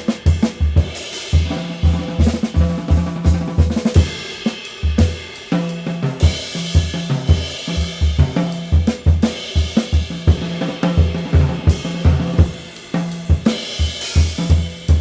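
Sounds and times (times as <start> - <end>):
drum kit cymbals and hits: 0.0 - 15.0.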